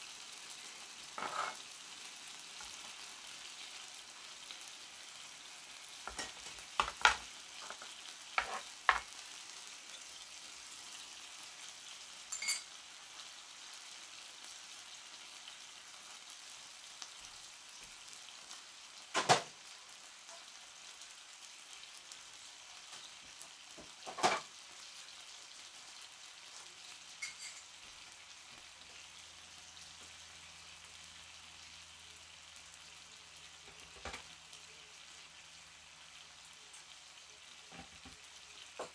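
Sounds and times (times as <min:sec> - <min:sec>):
pork sizzling in a skillet: 0:00.0 - 0:38.9.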